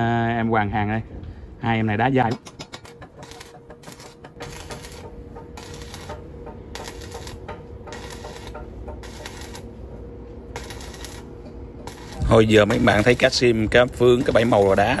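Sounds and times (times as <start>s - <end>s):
welding arc crackling: 2.6s - 15.0s.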